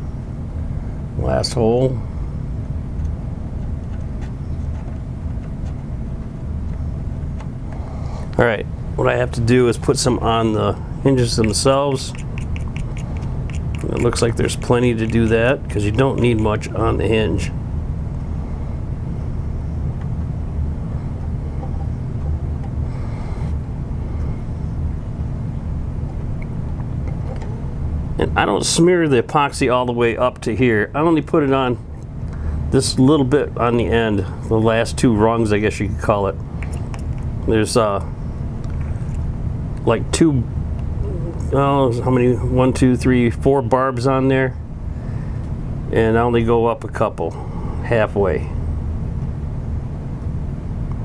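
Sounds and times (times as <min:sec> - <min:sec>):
workshop low rumble: 0:00.0 - 0:51.0.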